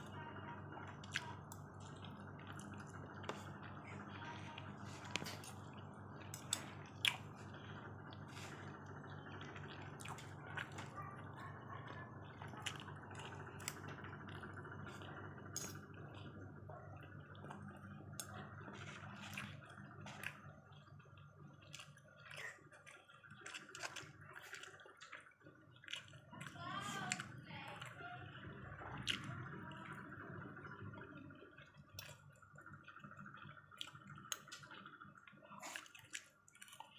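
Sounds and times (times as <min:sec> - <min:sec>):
steady low hum: 0:00.0 - 0:36.9
wet chewing: 0:00.8 - 0:28.0, 0:28.8 - 0:30.1, 0:31.6 - 0:36.9.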